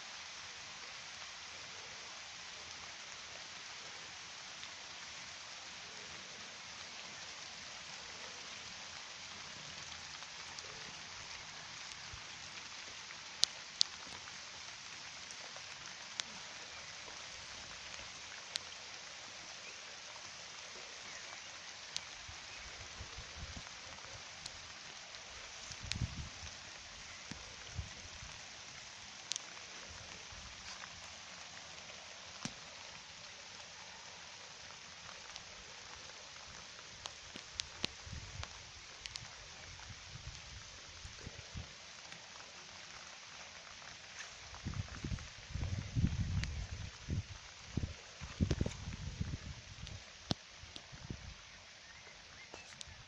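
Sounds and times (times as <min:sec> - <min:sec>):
rain on pond water: 0:00.0 - 0:53.0.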